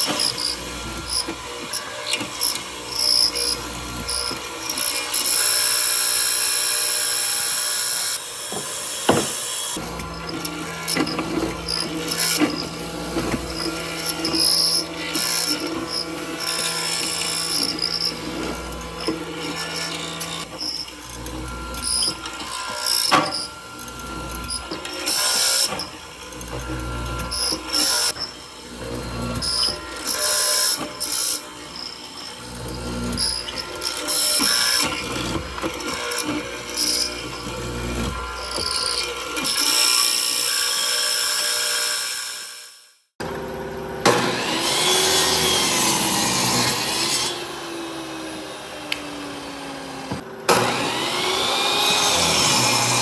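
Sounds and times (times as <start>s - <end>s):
power tool running: 0.0s - 42.6s, 43.2s - 53.0s.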